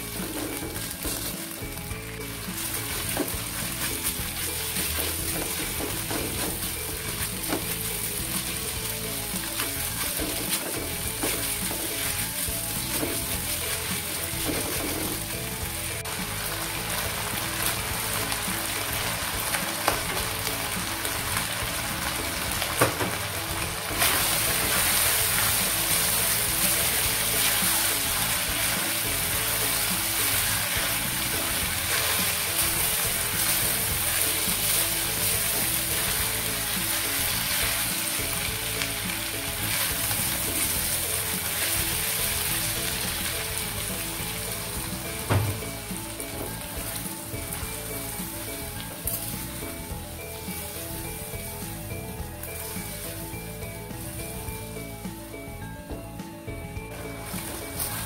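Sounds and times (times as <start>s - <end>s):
food sizzling in oil in a wok: 0.0s - 55.6s, 56.9s - 58.0s.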